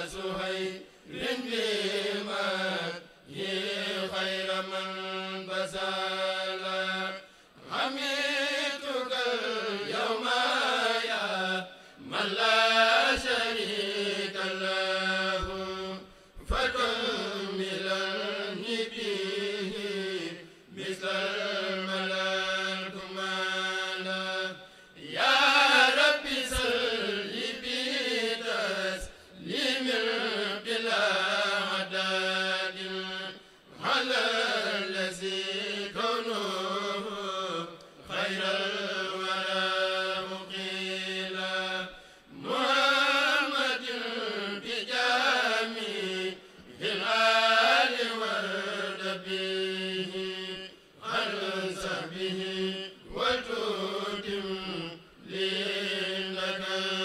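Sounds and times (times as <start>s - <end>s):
men chanting: 0.0s - 57.0s.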